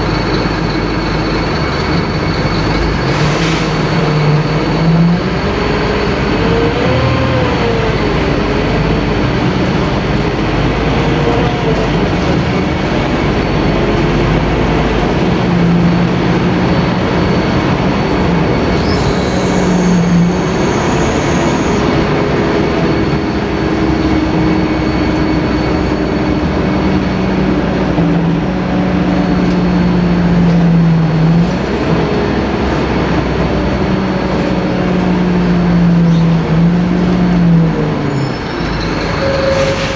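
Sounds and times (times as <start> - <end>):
rumble and rattle: 0.0 - 38.5
bus diesel engine running: 0.0 - 39.9.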